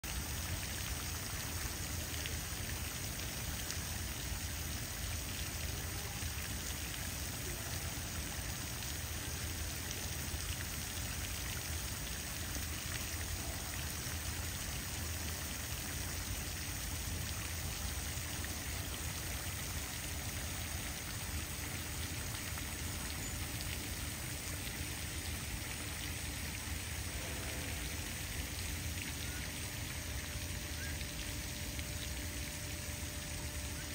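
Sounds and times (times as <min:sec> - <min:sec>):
fountain water pattering on pond: 0:00.0 - 0:33.9.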